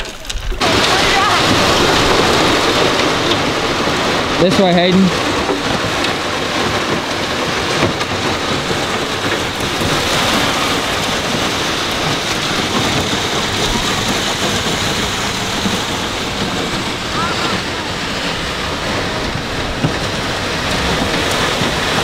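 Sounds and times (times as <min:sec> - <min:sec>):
river water rushing over rapid: 0:00.0 - 0:22.0
wind buffeting microphone: 0:00.0 - 0:22.0.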